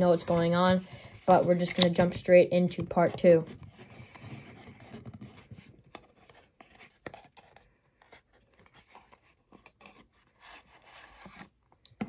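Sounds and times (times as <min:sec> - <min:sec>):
cardboard box rustling and tapping: 0:01.4 - 0:12.0.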